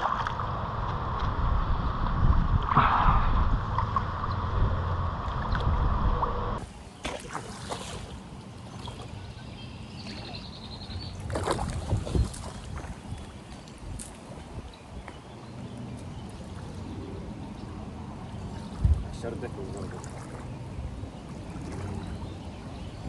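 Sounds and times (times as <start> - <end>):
wind buffeting microphone: 0.0 - 6.6, 10.2 - 23.0
water splashing and sloshing: 0.0 - 23.0.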